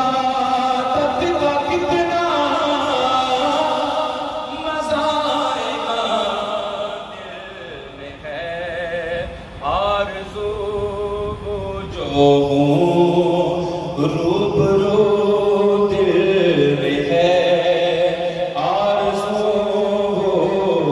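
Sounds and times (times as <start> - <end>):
man singing unaccompanied: 0.0 - 20.9.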